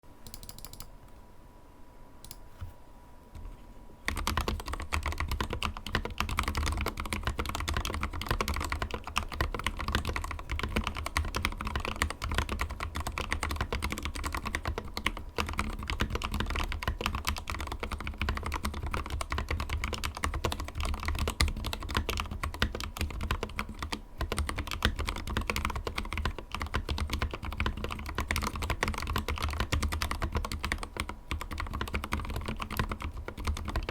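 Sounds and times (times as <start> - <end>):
fast typing on mechanical keyboard: 0.2 - 0.9, 4.1 - 33.9.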